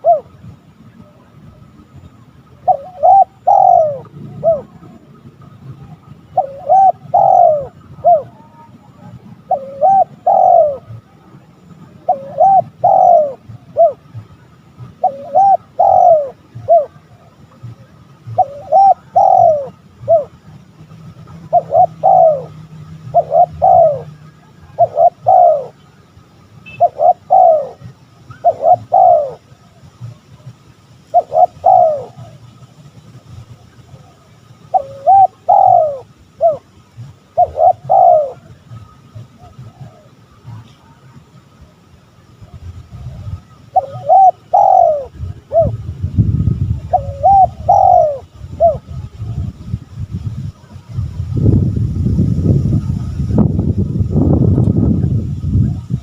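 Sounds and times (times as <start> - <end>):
dove cooing: 0.0 - 1.3, 2.0 - 30.5, 31.1 - 32.8, 33.6 - 46.1, 46.7 - 49.6.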